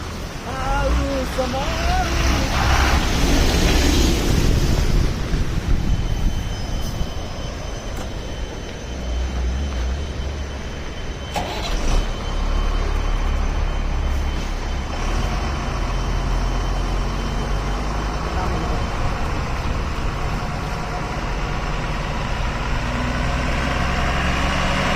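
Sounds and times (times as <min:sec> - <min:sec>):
road noise: 0:00.0 - 0:24.9
truck engine running: 0:00.0 - 0:24.9.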